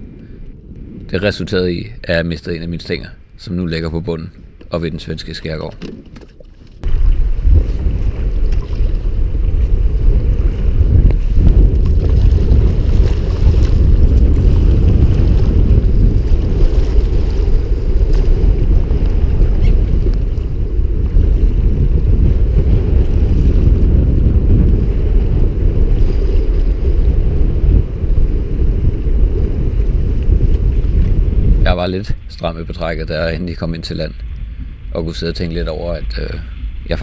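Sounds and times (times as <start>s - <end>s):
wind buffeting microphone: 0.0s - 37.0s
waves washing around boat: 4.9s - 37.0s.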